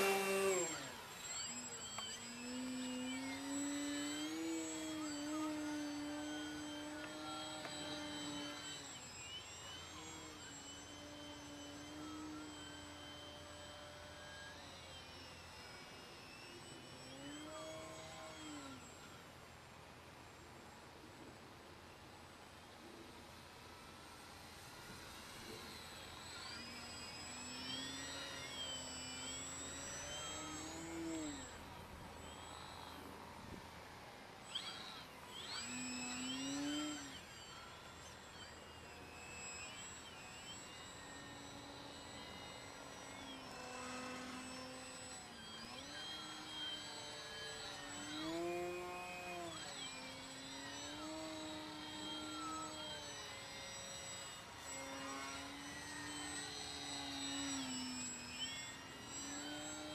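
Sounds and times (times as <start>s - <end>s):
model plane motor whining drone: 0.0s - 59.9s.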